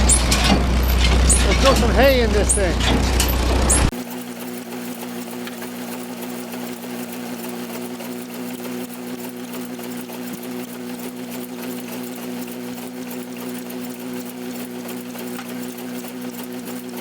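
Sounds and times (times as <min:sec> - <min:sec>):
hay baler clattering: 0:00.0 - 0:17.0
tractor engine hum: 0:00.0 - 0:17.0.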